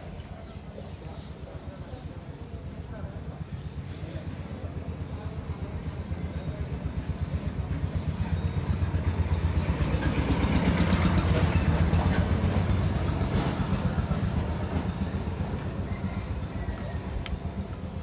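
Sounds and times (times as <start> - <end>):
vehicle engine running: 1.6 - 18.0.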